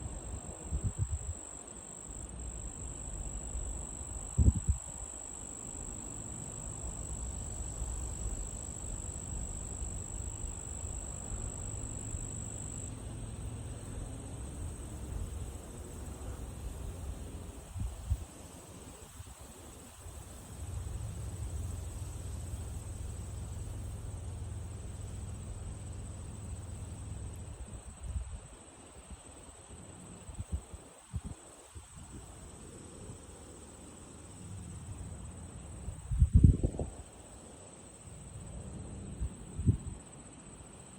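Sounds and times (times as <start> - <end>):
insects trilling: 0.0 - 40.9
wind in tall grass: 0.0 - 40.9.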